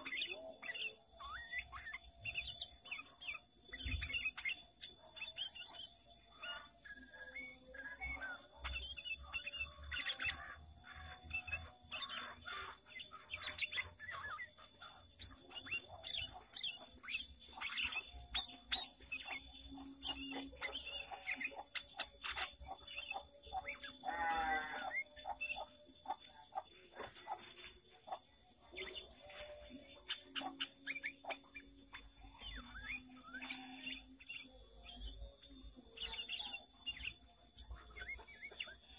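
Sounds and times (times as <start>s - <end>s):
bird stuttering chatter: 0.0s - 35.1s
bulbul chirping: 0.0s - 38.9s.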